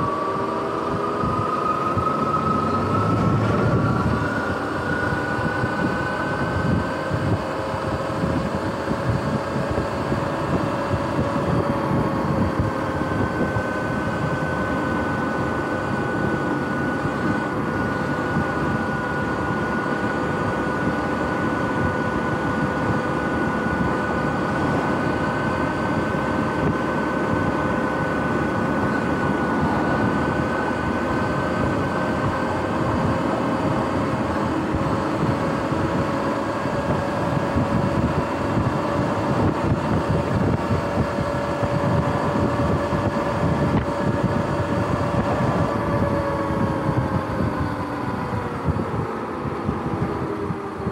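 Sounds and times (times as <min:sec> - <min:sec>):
electric drivetrain whine: 0:00.0 - 0:50.9
wind and tyre noise: 0:00.0 - 0:50.9.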